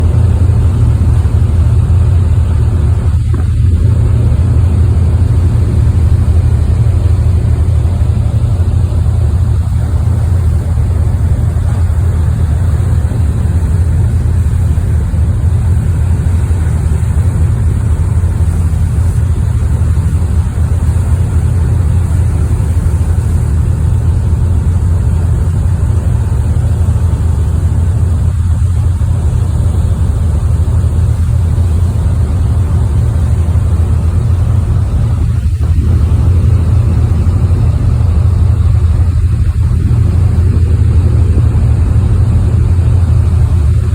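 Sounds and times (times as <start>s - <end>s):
ferry diesel engines droning: 0.0s - 43.9s
steady hiss: 0.0s - 43.9s.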